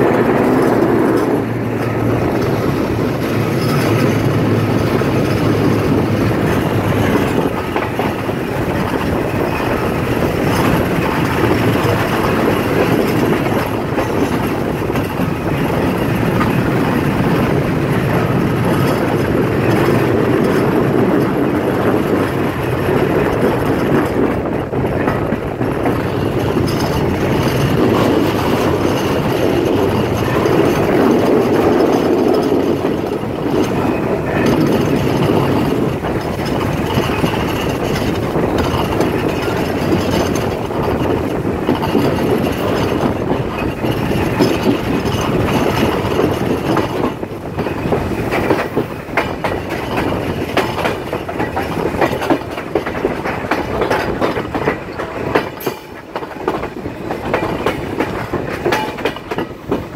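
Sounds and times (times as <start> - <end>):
train coaches rumbling: 0.0 - 59.9
wheels clattering over rails: 0.0 - 59.9.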